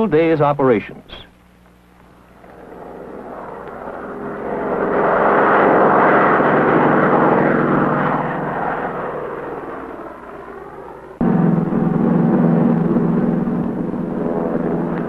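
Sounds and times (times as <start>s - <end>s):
propeller airplane engine: 1.4s - 15.0s.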